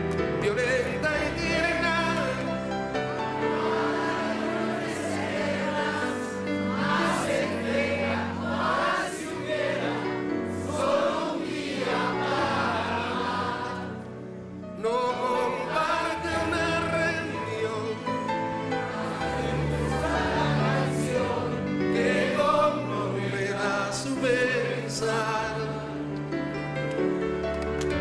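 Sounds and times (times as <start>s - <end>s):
audience singing along: 1.0s - 26.4s.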